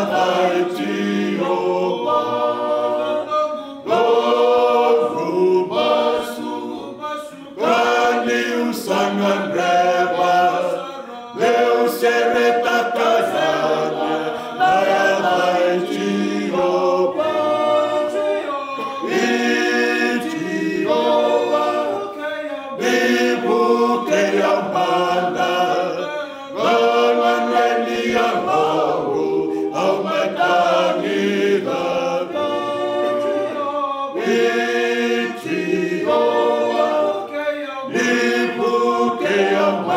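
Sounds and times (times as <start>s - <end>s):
men singing a cappella hymn: 0.0s - 39.9s.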